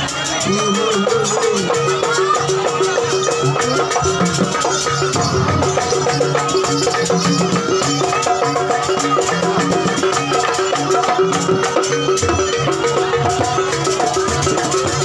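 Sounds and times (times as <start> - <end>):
drums beating fast rhythm: 0.0 - 15.0.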